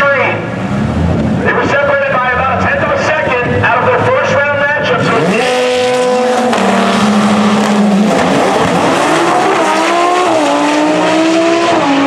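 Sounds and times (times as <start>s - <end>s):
drag car engines revving: 0.0s - 12.0s.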